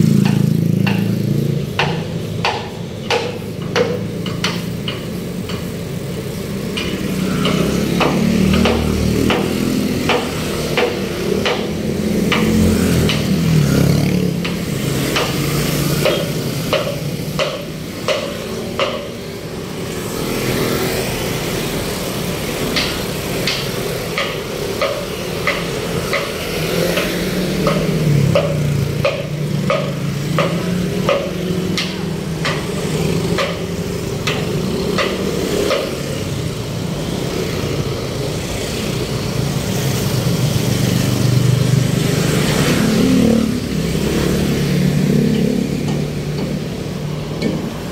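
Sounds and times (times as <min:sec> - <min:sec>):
road traffic engines: 0:00.0 - 0:47.9.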